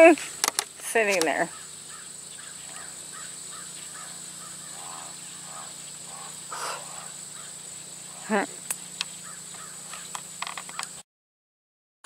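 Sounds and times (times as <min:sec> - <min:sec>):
faint animal calls: 0:01.3 - 0:11.0.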